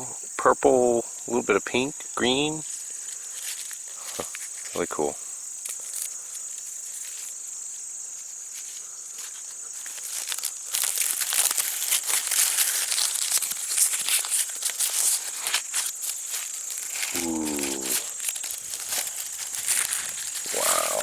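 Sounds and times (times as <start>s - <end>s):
crickets chirring: 0.0s - 21.0s
corn husks crinkling and tearing: 2.6s - 21.0s.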